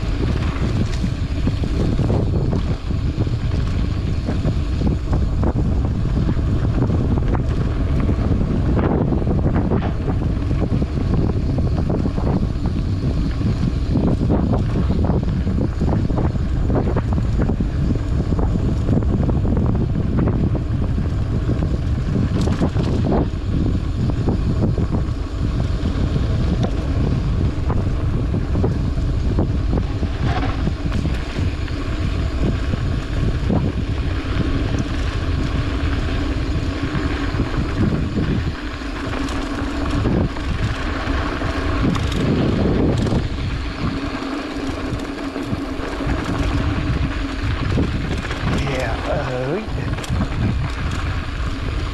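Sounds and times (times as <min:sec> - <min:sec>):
bike clicks and rattles: 0:00.0 - 0:51.9
bike tyres rumbling on dirt: 0:00.0 - 0:51.9
wind buffeting microphone: 0:00.0 - 0:51.9.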